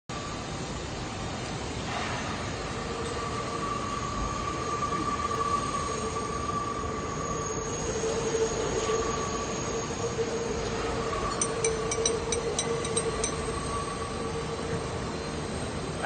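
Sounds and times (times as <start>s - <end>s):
machinery high-pitched whine: 0.1s - 16.0s
machinery rumbling hiss: 0.2s - 16.0s.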